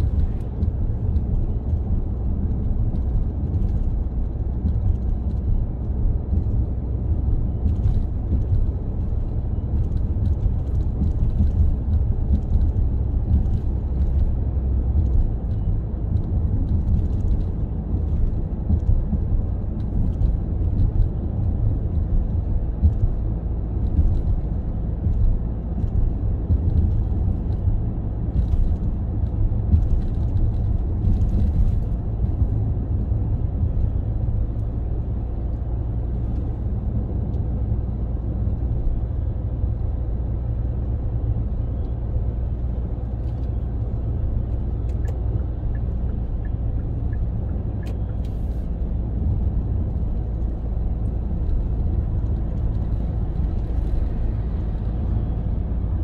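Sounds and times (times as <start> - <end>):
tyres and engine rumble: 0.0 - 56.0.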